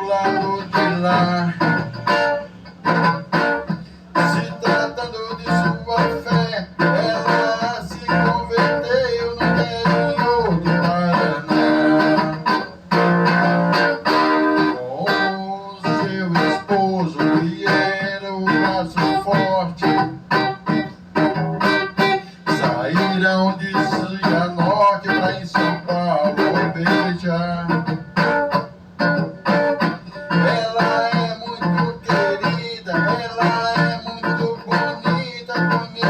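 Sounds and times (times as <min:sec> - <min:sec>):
guitar lead line: 0:00.0 - 0:36.0.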